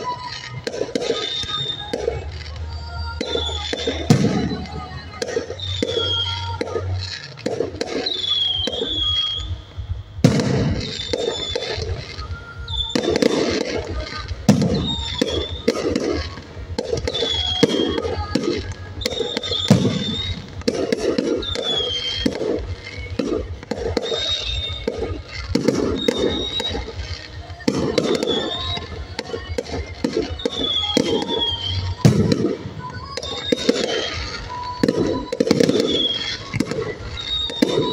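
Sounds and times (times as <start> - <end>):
falling whistles: 0.0 - 37.9
fireworks bangs and crackles: 0.0 - 37.9.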